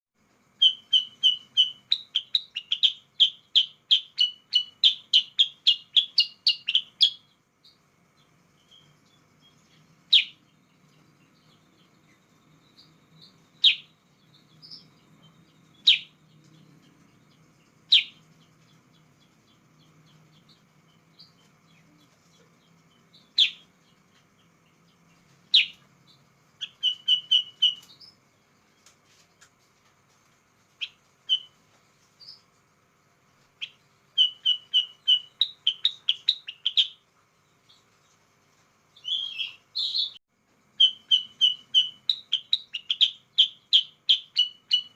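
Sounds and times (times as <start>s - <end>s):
bulbul singing: 0.4s - 29.6s, 30.8s - 32.7s, 33.6s - 38.1s, 38.8s - 44.9s.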